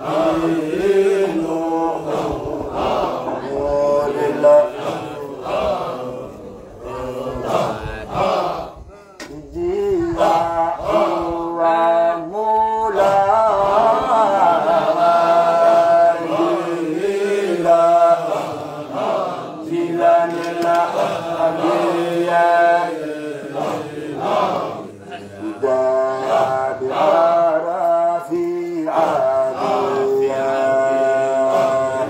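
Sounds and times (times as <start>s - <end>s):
men chanting long held notes: 0.0s - 32.0s.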